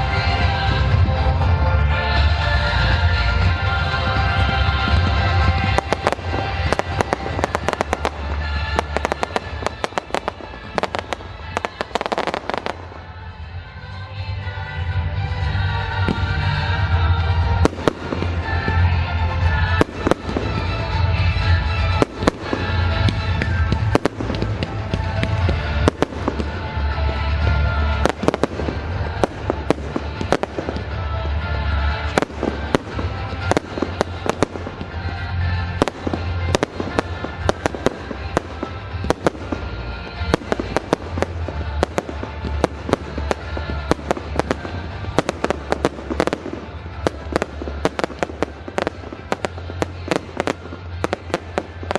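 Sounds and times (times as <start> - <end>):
fireworks bangs and crackles: 0.0 - 13.6, 14.2 - 51.9.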